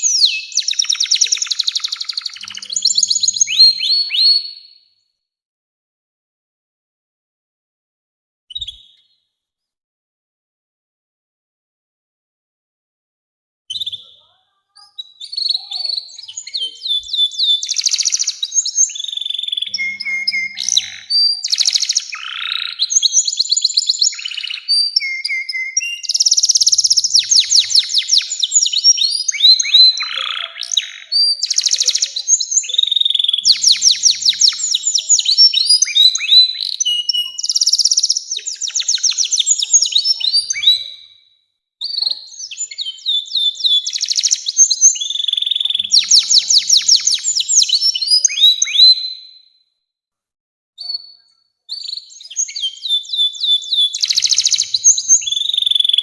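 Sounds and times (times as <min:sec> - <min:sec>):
canary singing trills: 0:00.0 - 0:04.8, 0:13.7 - 0:41.2, 0:41.8 - 0:49.4, 0:50.8 - 0:56.0.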